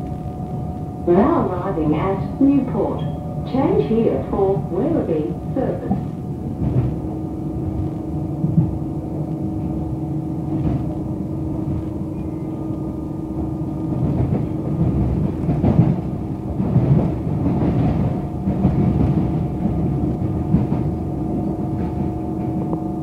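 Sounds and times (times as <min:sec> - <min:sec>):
constant hum: 0:00.0 - 0:23.0
train wheels rumbling on rails: 0:00.0 - 0:23.0.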